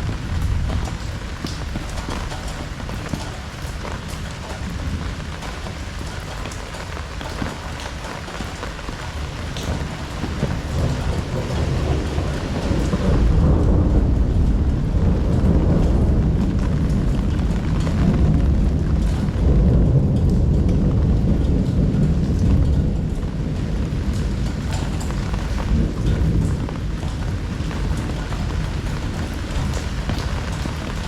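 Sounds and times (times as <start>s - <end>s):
deep rumble of thunder: 0.0s - 31.0s
heavy rain pouring: 0.0s - 31.0s.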